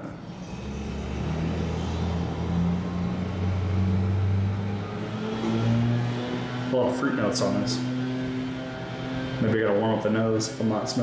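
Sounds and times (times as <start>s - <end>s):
small gasoline engine running: 0.2s - 11.0s.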